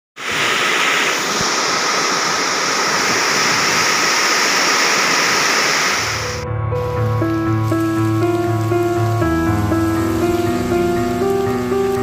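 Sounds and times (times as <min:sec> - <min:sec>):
heavy rain pouring: 0:00.2 - 0:12.0.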